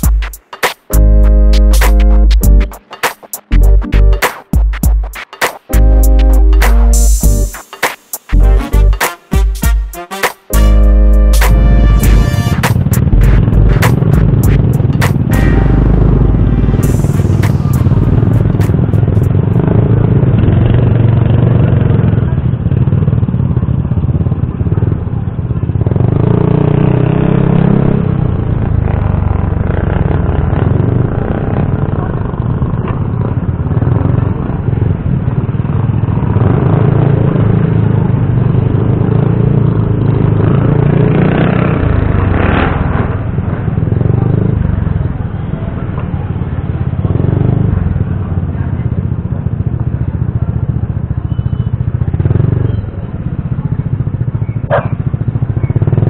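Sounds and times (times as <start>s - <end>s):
motorcycle engine revving: 10.5s - 56.0s.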